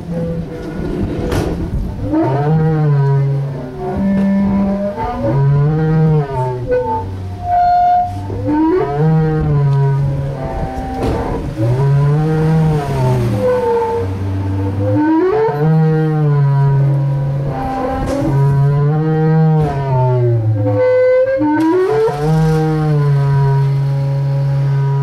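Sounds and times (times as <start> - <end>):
low drone: 0.0 - 25.0.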